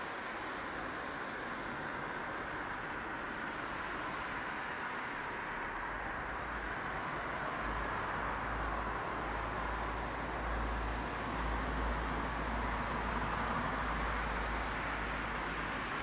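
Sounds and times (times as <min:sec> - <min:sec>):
outdoor background hiss and rumble: 0:00.0 - 0:16.0.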